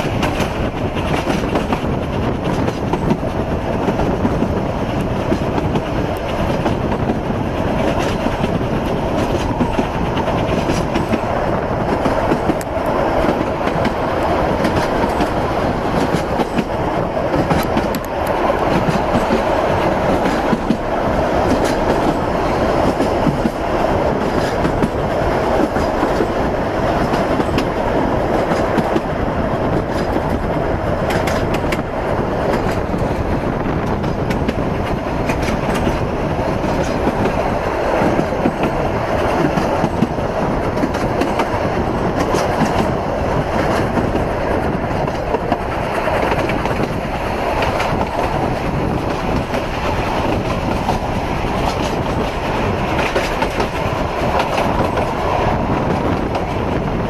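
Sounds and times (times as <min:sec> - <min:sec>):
steam train rumbling: 0:00.0 - 0:57.0.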